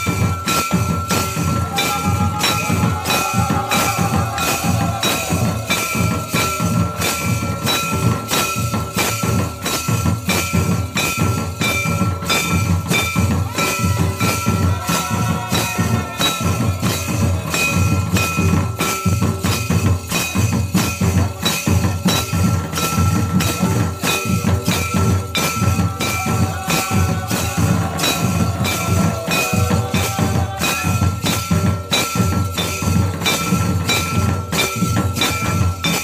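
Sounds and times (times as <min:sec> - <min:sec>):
barrel drum beating: 0:00.0 - 0:36.0.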